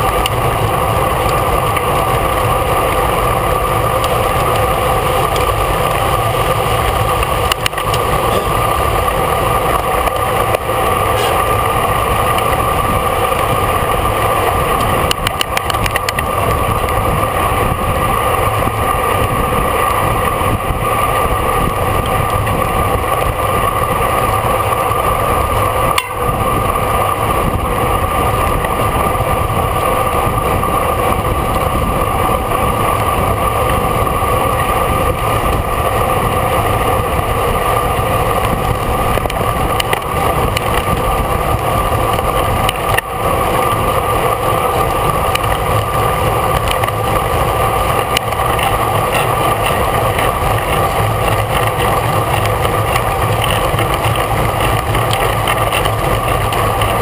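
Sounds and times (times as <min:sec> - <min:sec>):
road noise: 0:00.0 - 0:57.0
wind rush: 0:00.0 - 0:57.0.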